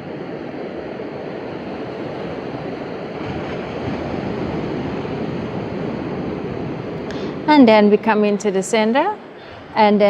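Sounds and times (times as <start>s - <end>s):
ocean surf rushing: 0.0s - 10.0s.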